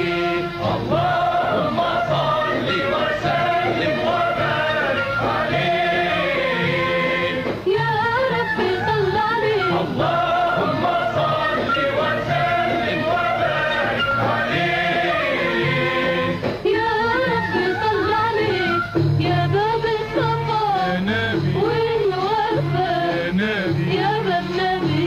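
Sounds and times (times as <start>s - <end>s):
choir singing with music: 0.0s - 25.0s.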